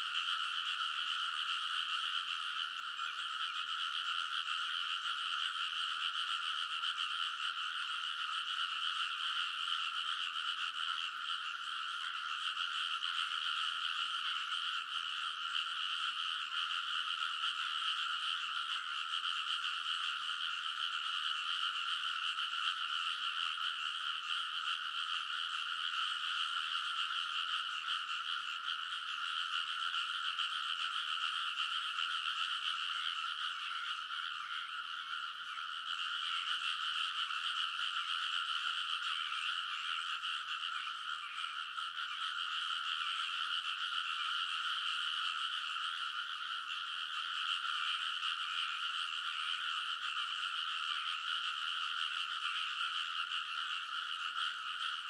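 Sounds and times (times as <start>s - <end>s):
frogs croaking chorus: 0.0s - 55.0s.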